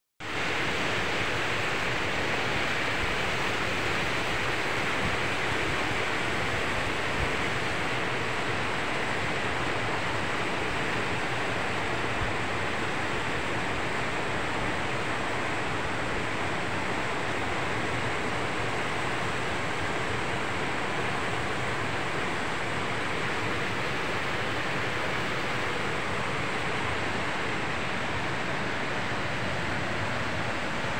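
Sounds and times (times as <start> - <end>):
river rushing over rocks: 0.2 - 30.9.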